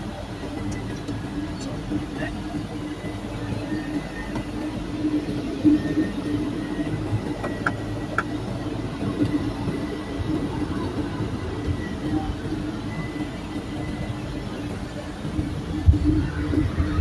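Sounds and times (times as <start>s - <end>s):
turboprop engine hum: 0.0s - 17.0s.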